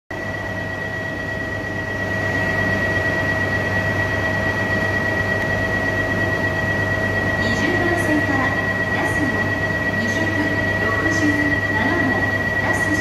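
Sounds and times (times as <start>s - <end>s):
train equipment low hum: 0.1s - 13.0s
constant high-pitched tone: 0.2s - 13.0s.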